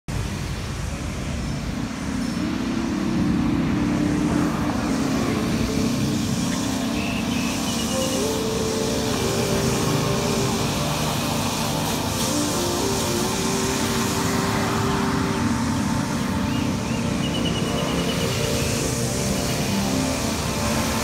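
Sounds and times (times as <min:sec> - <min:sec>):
passing traffic: 0:00.1 - 0:21.0
vehicle engine and road noise: 0:00.1 - 0:21.0.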